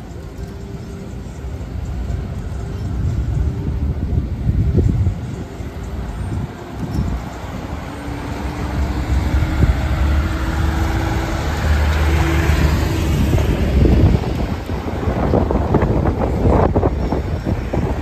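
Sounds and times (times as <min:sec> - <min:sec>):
cars driving past on wet street: 0:00.0 - 0:18.0.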